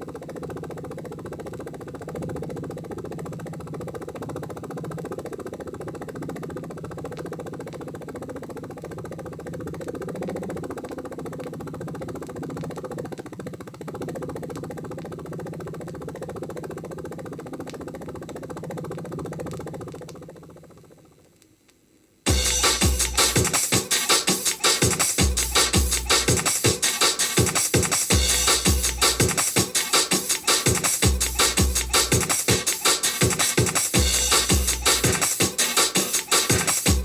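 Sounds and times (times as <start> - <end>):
helicopter engine drone: 0.0 - 21.2, 22.3 - 37.0
helicopter rotor chopping: 0.0 - 21.2, 22.3 - 37.0.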